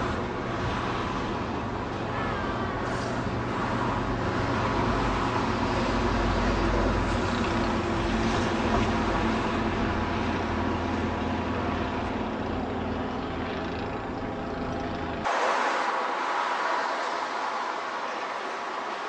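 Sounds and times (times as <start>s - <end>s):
vehicle low hum and rumble: 0.0s - 18.9s.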